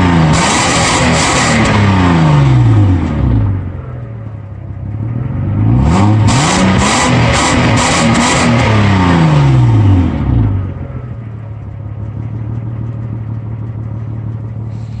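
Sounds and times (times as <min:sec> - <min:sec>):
car engine revving down to idle: 0:00.0 - 0:15.0.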